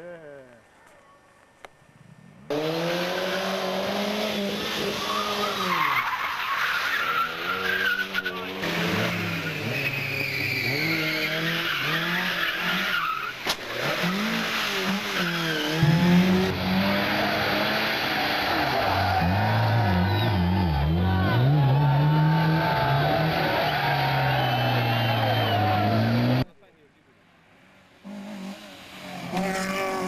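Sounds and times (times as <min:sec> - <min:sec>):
rally car engines revving: 0:02.5 - 0:26.5, 0:28.0 - 0:30.0.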